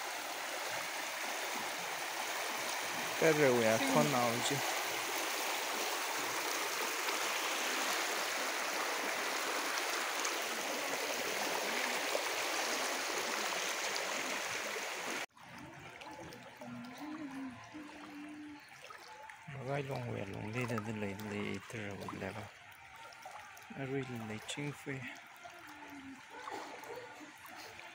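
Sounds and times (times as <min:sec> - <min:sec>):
floodwater rushing: 0:00.0 - 0:27.9
water lapping: 0:00.0 - 0:27.9.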